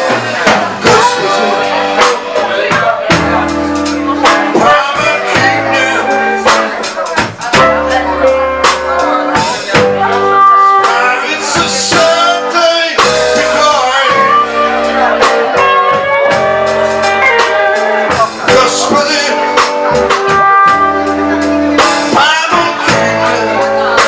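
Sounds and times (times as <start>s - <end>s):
drum kit: 0.0s - 24.0s
electric guitars: 0.0s - 24.0s.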